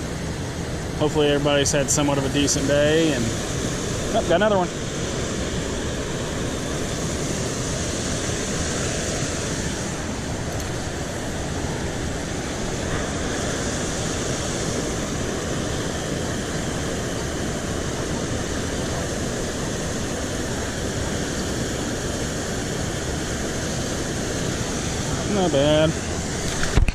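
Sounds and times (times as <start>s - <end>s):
water rushing over spillway: 0.0s - 26.9s.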